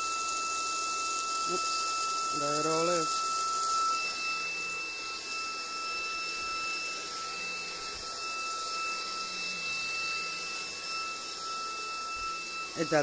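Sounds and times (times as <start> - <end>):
stick vacuum running on carpet: 0.0 - 13.0.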